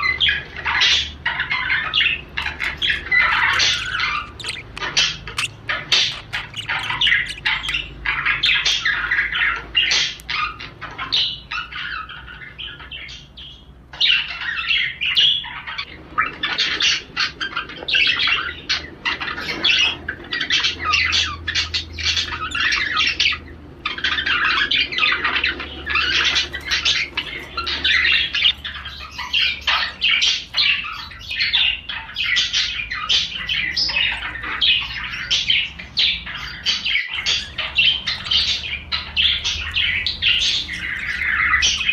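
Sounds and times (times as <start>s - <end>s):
budgerigar warbling: 0.0s - 13.1s, 14.0s - 41.9s.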